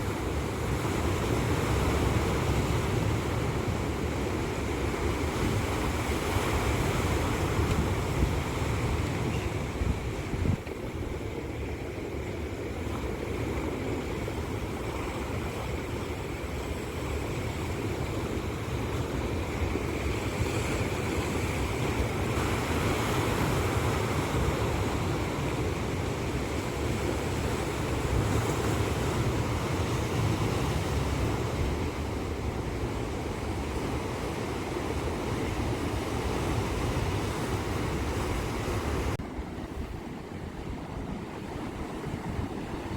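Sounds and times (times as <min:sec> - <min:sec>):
sea waves breaking on shore: 0:00.0 - 0:42.9.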